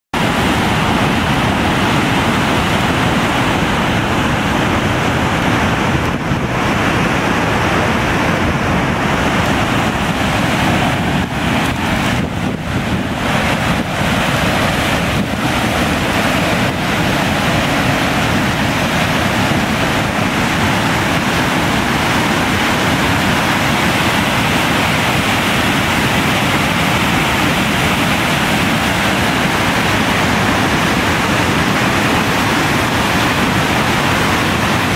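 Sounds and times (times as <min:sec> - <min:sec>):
floodwater rushing over spillway: 0:00.2 - 0:34.9.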